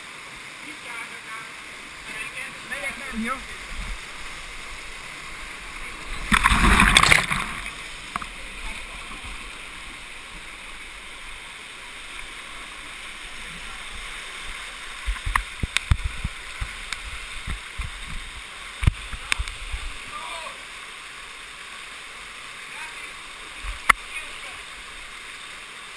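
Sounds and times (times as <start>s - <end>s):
stream rushing over rock: 0.0s - 25.9s
water splashing: 0.6s - 25.2s.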